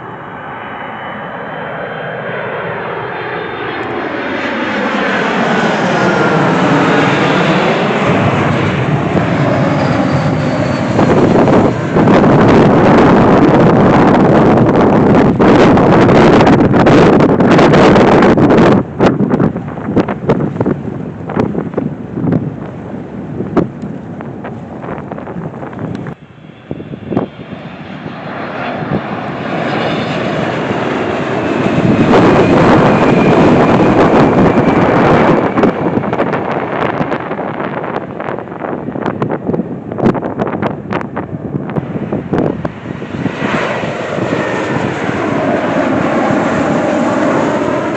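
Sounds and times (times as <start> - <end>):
airliner engine noise: 0.0 - 47.9
airplane flying past: 0.0 - 47.9
wind buffeting microphone: 0.3 - 47.9.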